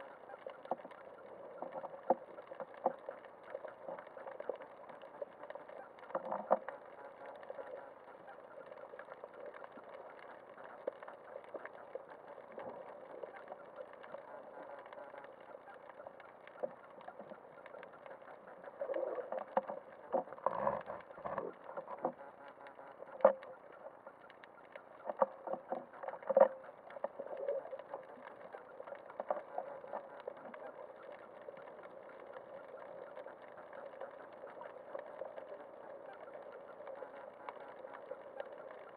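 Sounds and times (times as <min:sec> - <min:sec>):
underwater moving water hush: 0:00.0 - 0:38.9.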